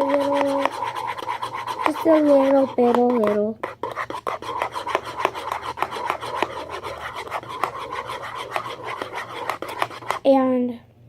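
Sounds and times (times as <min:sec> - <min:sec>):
utensil scraping a bowl: 0:00.0 - 0:10.3.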